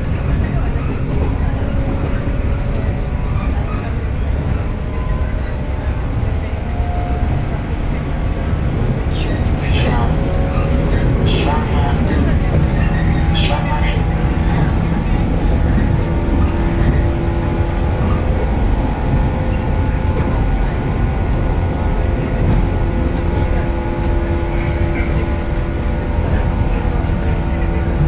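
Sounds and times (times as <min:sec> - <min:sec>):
train deep rumble: 0:00.0 - 0:28.0.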